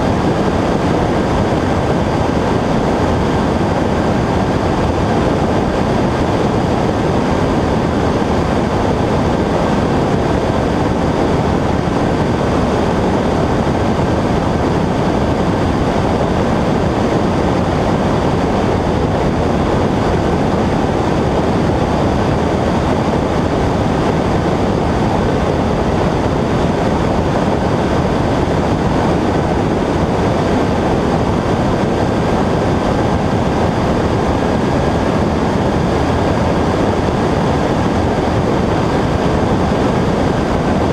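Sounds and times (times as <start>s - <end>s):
light aircraft engine and propeller: 0.0s - 40.9s
rushing air noise: 0.0s - 40.9s.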